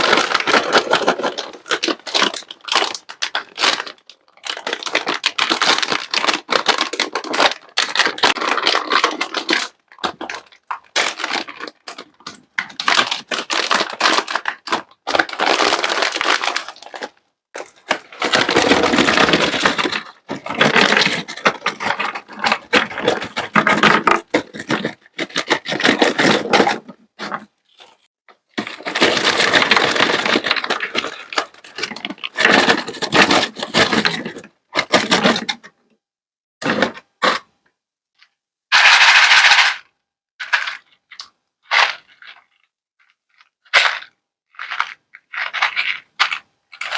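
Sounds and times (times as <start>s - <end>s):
sweets clicking and crinkling: 0.0s - 35.8s, 38.2s - 46.9s.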